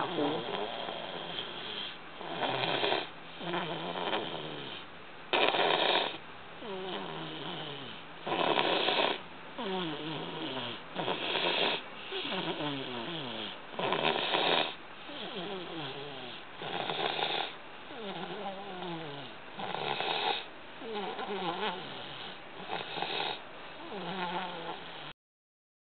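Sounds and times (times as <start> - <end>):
toddler snoring: 0.0 - 25.2.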